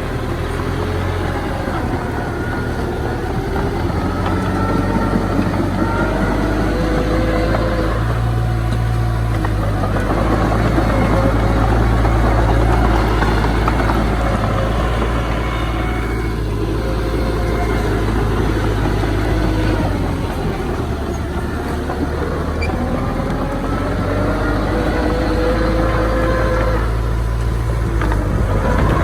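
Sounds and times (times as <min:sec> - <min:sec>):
heavy machinery engine humming: 0:00.0 - 0:29.0.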